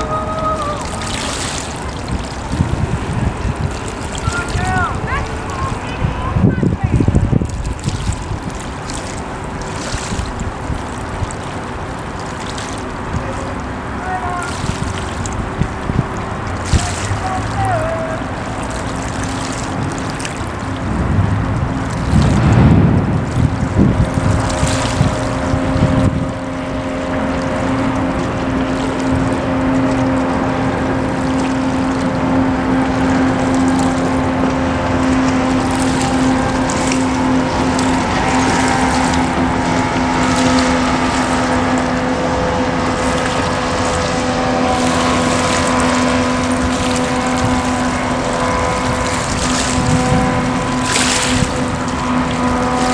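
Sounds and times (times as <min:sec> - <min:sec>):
boat engine hum: 0:00.0 - 0:52.9
moving water: 0:00.0 - 0:52.9
wind: 0:00.0 - 0:52.9
wind buffeting microphone: 0:00.0 - 0:52.9.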